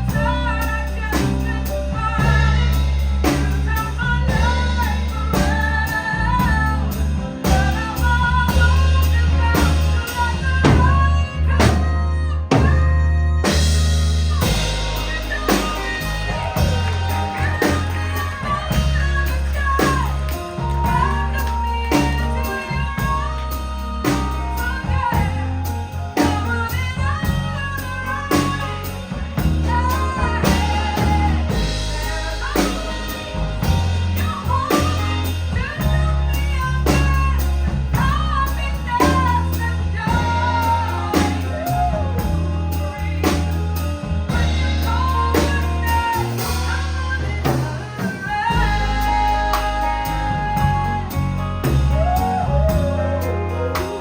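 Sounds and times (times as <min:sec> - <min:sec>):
live band playing soul-pop ballad: 0:00.0 - 0:54.0
woman singing: 0:00.0 - 0:54.0.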